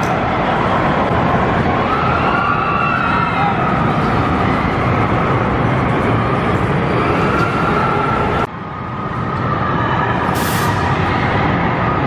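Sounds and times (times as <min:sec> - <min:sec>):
roller coaster wheels roaring: 0:00.0 - 0:12.0.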